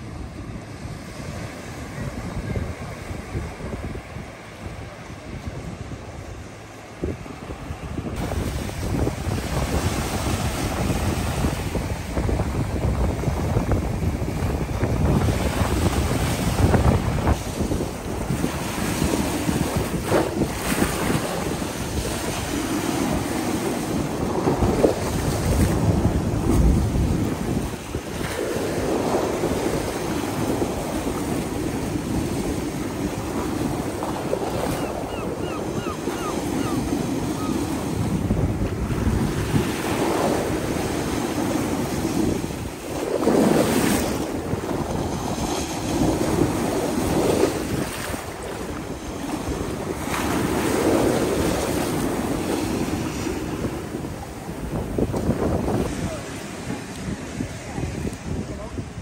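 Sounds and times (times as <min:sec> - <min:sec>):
sea surf washing onto beach: 0:00.0 - 0:59.0
wind rumbling on microphone: 0:00.0 - 0:59.0.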